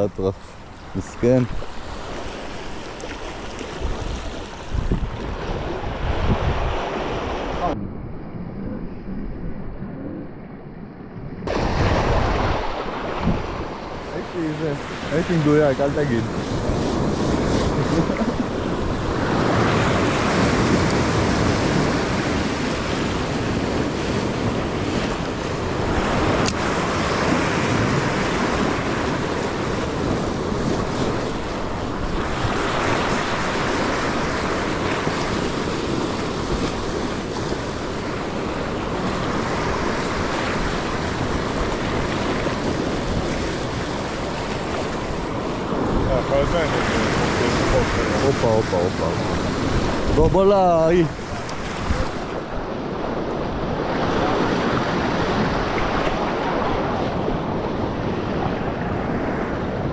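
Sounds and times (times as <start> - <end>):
waves breaking on rocks: 0.0 - 7.8, 11.5 - 59.9
wind buffeting microphone: 0.0 - 59.9.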